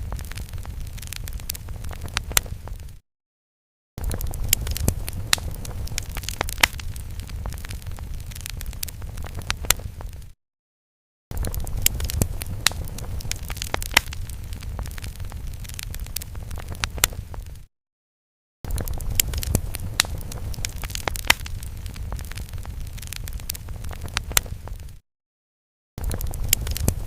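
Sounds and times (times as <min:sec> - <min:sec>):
fire roaring and crackling: 0:00.0 - 0:03.0, 0:04.0 - 0:10.4, 0:11.3 - 0:17.7, 0:18.7 - 0:25.0, 0:26.0 - 0:27.0.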